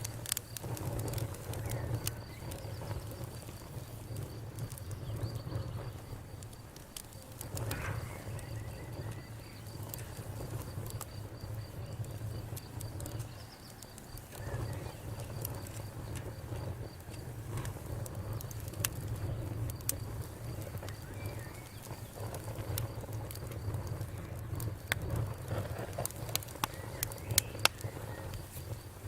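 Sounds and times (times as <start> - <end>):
campfire crackling and popping: 0.0 - 29.0
cricket chirping: 0.0 - 29.0.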